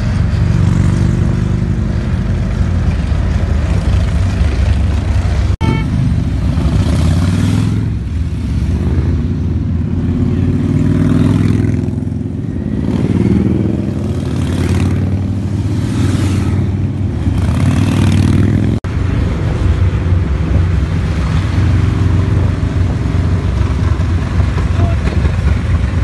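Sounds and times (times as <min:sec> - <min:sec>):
motorcycles rumbling past: 0:00.0 - 0:26.0.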